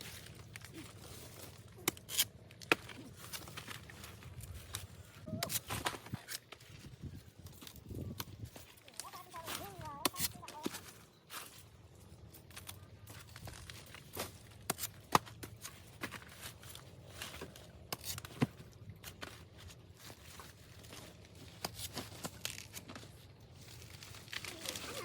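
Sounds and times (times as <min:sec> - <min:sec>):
dry leaves rustling and tearing: 0:00.0 - 0:11.7, 0:12.4 - 0:15.0, 0:19.0 - 0:25.0.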